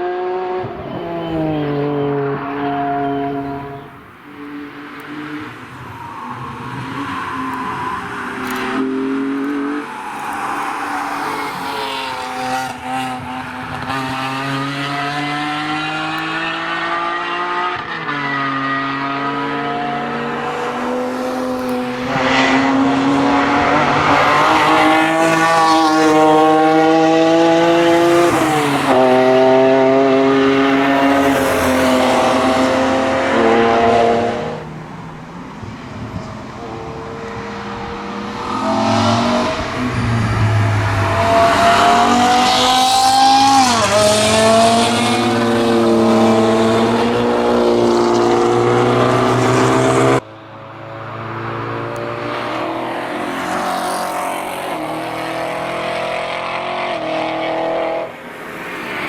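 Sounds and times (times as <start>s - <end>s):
race cars accelerating past: 0.0s - 59.0s.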